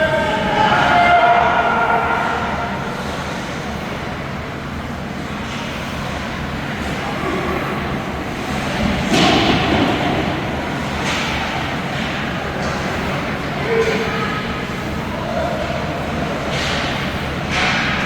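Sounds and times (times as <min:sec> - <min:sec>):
crowd noise: 0:00.0 - 0:18.0.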